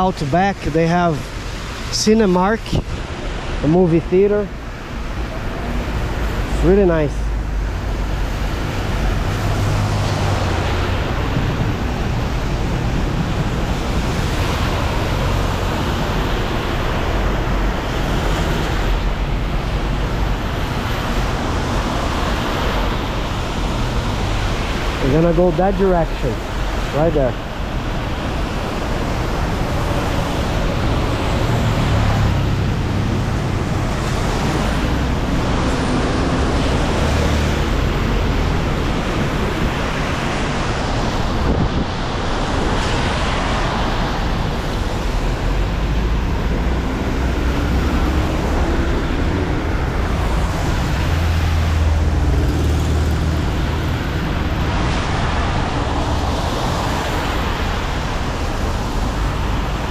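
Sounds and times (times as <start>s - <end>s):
tyres hissing on wet road: 0.0s - 59.9s
passing vehicle engine rumble: 4.6s - 25.6s, 26.2s - 59.9s.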